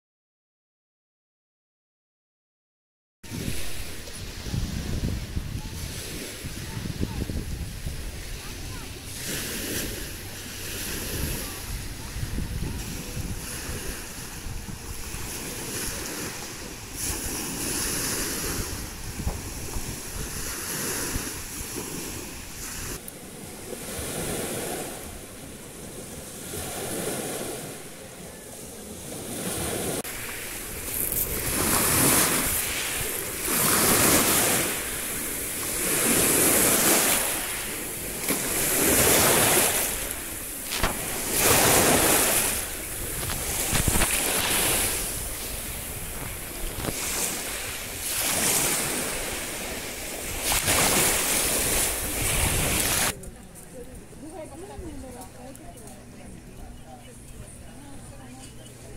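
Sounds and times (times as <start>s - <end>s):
wind buffeting microphone: 3.3s - 23.0s, 29.4s - 57.4s
waves washing over pebble beach: 3.3s - 28.0s, 29.0s - 53.2s.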